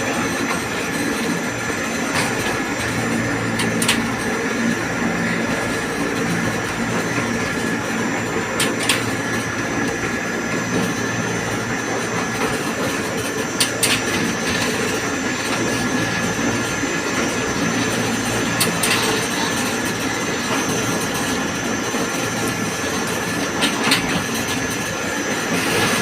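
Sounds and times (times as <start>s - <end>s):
hoist mechanical drone: 0.0s - 26.0s.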